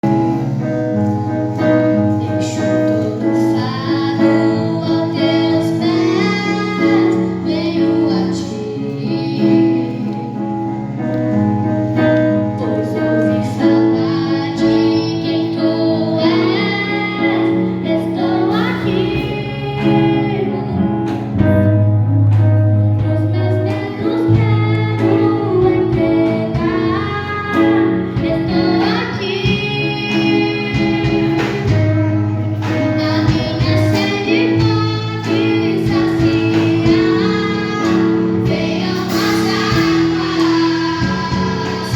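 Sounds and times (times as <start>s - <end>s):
children's choir singing: 0.0s - 21.5s, 23.5s - 41.9s
instrumental backing music: 0.0s - 41.9s.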